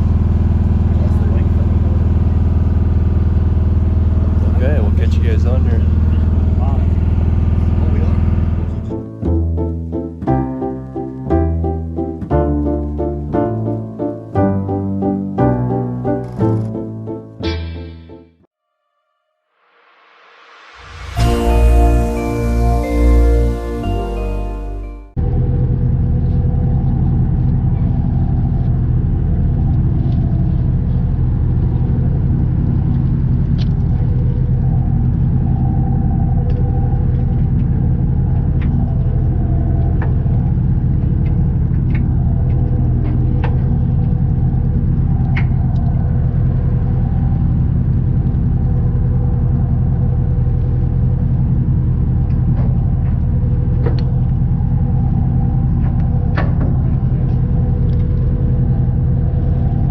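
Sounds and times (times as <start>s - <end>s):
boat engine droning: 0.0s - 17.5s, 19.8s - 59.9s.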